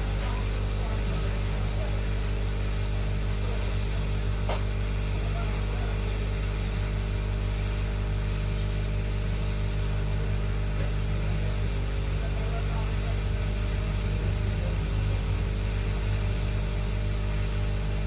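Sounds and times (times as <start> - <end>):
hot air station blowing: 0.0 - 18.0.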